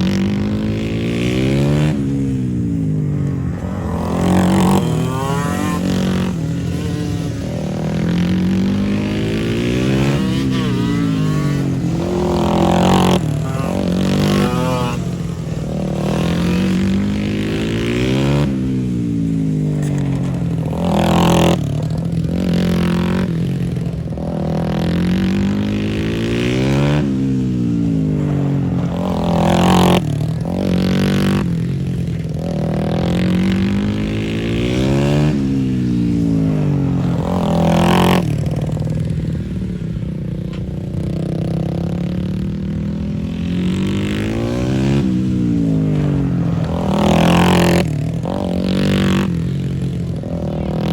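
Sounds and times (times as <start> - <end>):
racing motorcycles passing: 0.0 - 50.9.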